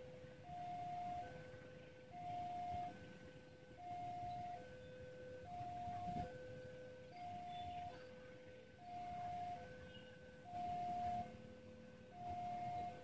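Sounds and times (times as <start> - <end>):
two-tone electronic alarm: 0.4 - 1.5, 2.1 - 8.2, 8.8 - 13.0.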